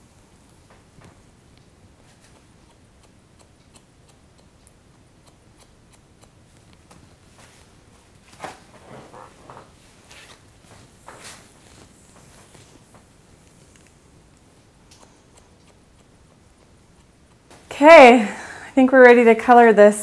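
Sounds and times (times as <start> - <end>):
hair being combed rustling: 0.0 - 19.7
shears snipping hair: 0.1 - 19.7.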